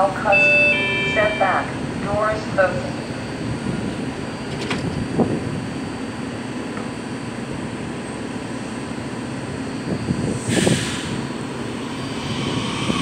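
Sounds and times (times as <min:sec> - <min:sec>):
train equipment hum: 0:00.0 - 0:13.0.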